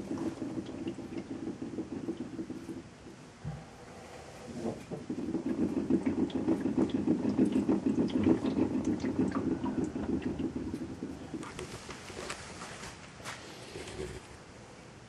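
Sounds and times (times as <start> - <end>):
fuel sloshing in tank: 0.0 - 13.3.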